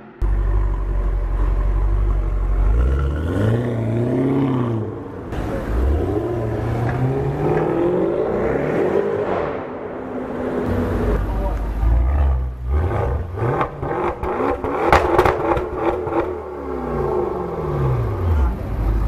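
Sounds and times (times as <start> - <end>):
car exhaust revving: 0.0 - 19.0.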